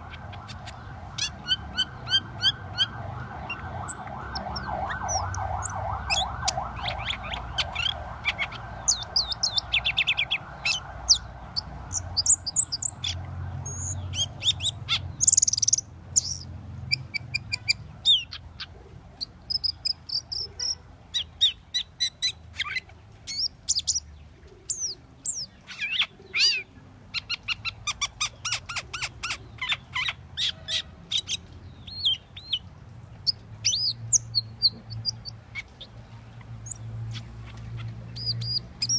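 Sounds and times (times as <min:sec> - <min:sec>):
starling singing: 0:00.0 - 0:32.6, 0:36.6 - 0:38.9.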